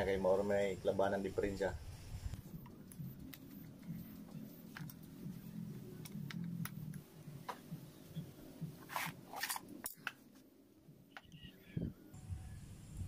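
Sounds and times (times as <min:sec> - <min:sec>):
faint low hum: 0:00.0 - 0:08.9, 0:09.7 - 0:13.0.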